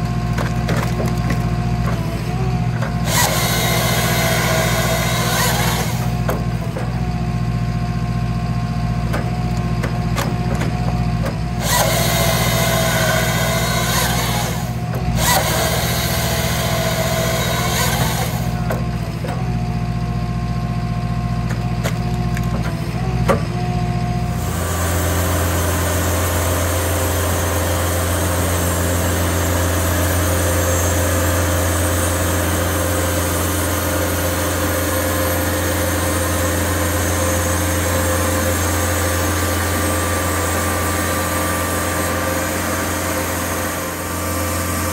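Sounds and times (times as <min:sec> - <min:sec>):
band saw sawing through log: 0:00.0 - 0:07.1, 0:09.6 - 0:19.5, 0:24.3 - 0:44.9
diesel engine running: 0:00.0 - 0:44.9
firewood processor whining: 0:00.0 - 0:44.9.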